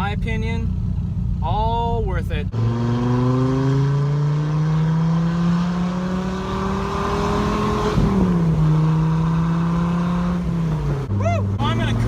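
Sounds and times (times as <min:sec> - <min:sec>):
car engine revving: 0:02.3 - 0:12.0.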